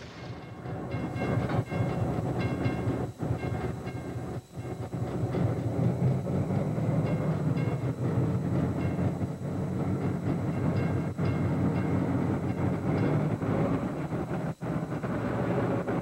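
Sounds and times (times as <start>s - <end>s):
high ringing tones: 0.0s - 15.1s.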